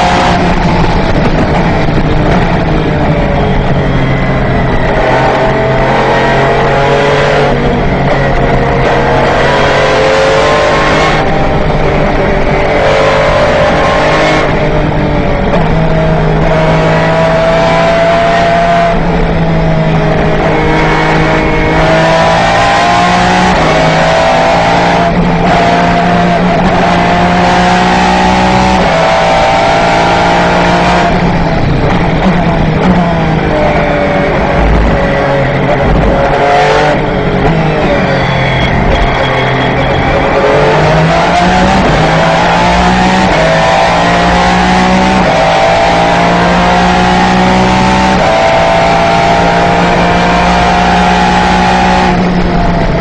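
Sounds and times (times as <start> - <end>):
racing car engine revving: 0.0 - 53.0.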